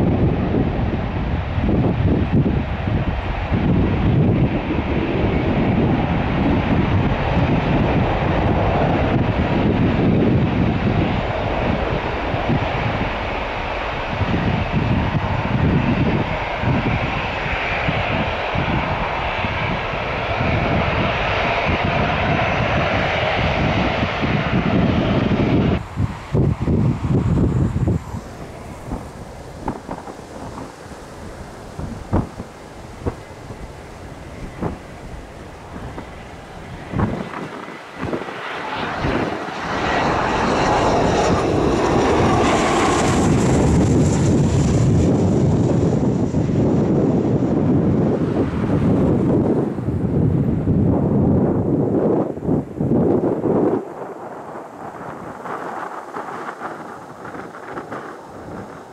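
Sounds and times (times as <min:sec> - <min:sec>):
airliner engines running: 0:00.0 - 0:58.9
wind buffeting microphone: 0:00.0 - 0:58.9.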